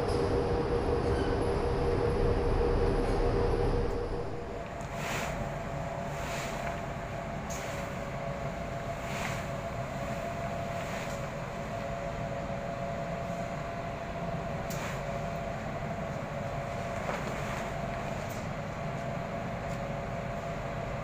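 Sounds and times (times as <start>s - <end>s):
mechanical hum with whine: 0.0s - 21.0s.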